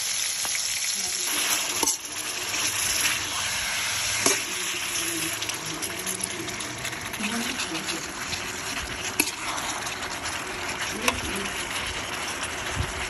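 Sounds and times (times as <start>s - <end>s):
oil sizzling in a wok: 0.0s - 13.0s
metal spatula stirring: 1.3s - 12.7s.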